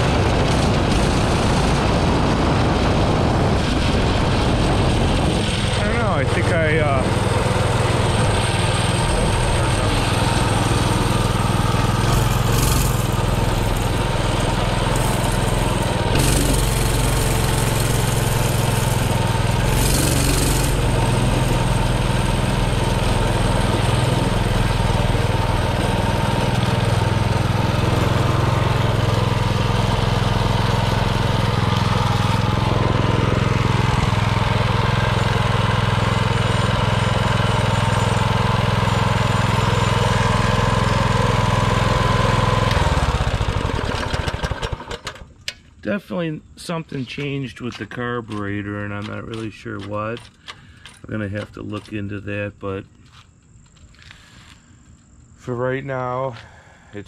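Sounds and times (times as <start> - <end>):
single-cylinder engine running: 0.0 - 45.9.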